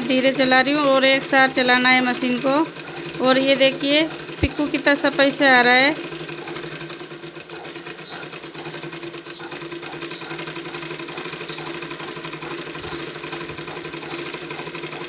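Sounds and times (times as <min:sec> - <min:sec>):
sewing machine stitching rattle: 0:00.0 - 0:15.0.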